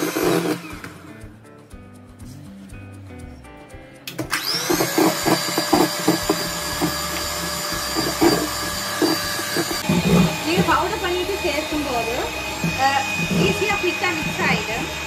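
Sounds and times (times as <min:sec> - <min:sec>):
electric hand mixer whining: 0:00.0 - 0:01.3, 0:04.1 - 0:15.0
faint background music: 0:00.0 - 0:15.0.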